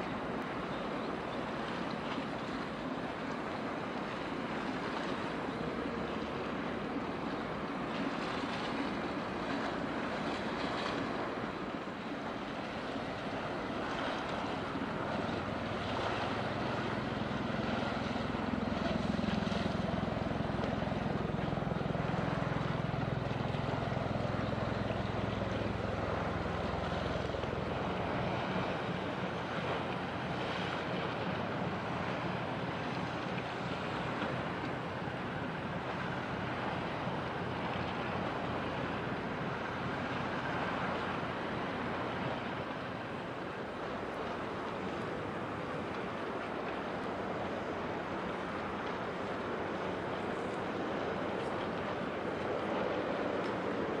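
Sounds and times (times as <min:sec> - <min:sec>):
ship engine drone: 0:00.0 - 0:54.0
wind and water hiss: 0:00.0 - 0:54.0.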